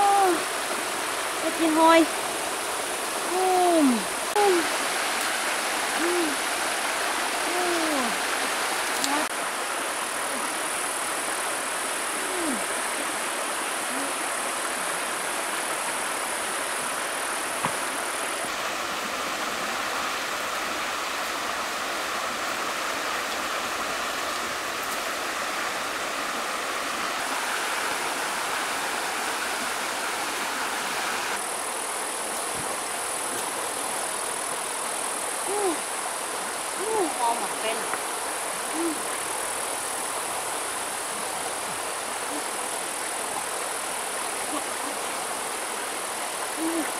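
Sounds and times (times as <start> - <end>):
stream flowing over rocks: 0.0 - 46.9.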